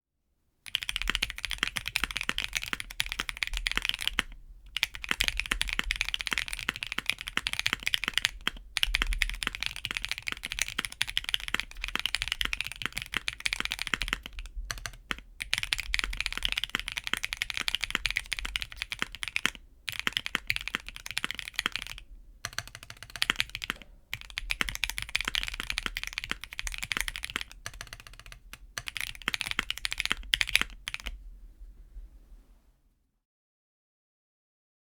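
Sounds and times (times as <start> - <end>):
mechanical keyboard typing: 0.7 - 31.2.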